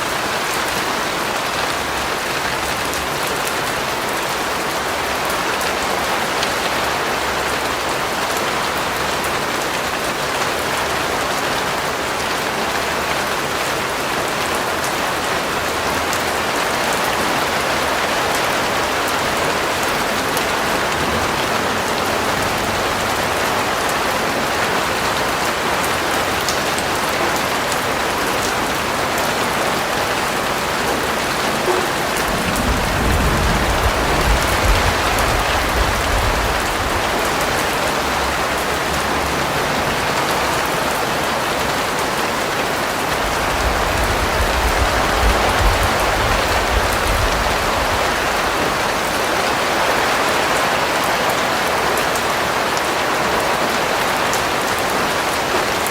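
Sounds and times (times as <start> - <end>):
steady rain hissing: 0.0 - 55.9.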